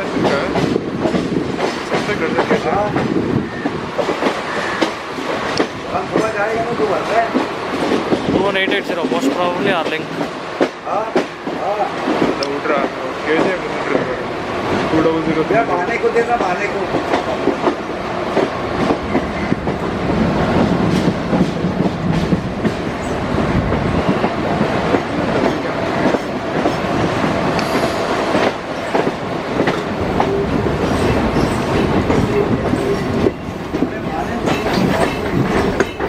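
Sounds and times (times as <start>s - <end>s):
train wheels clattering over rail joints: 0.0s - 14.2s, 15.0s - 36.0s.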